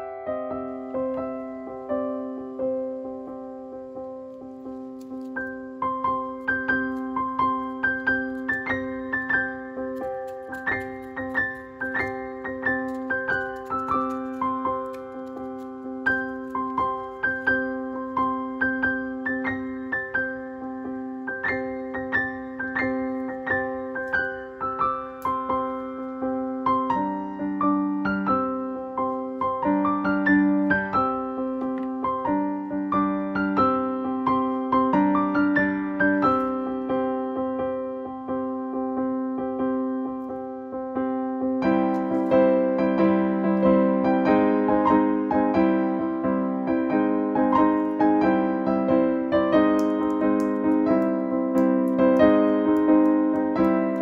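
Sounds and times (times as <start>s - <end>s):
gentle piano melody: 0.0s - 54.0s.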